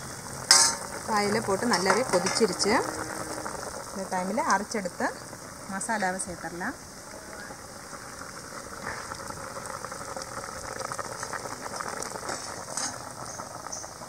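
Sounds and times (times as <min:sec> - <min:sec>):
broth bubbling at a boil: 0:00.0 - 0:14.0.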